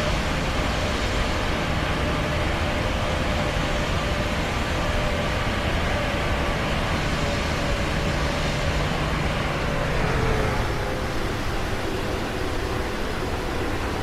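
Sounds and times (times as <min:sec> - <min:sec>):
airplane engine drone: 0:00.0 - 0:14.0.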